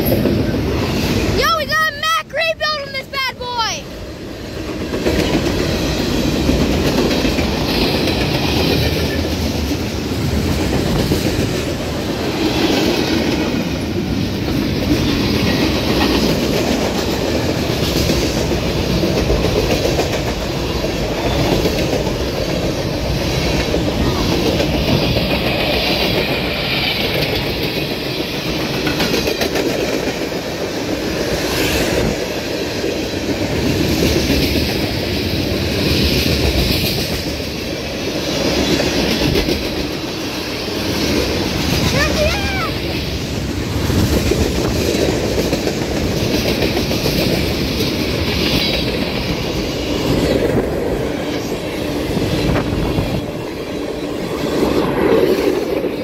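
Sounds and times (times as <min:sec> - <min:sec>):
freight train wheels rumbling: 0:00.0 - 0:56.0
wheels clickety-clack: 0:04.6 - 0:56.0.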